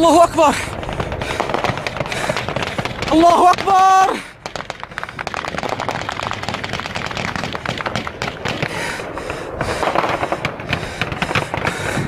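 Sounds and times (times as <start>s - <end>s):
automatic gunfire: 0.6s - 12.0s.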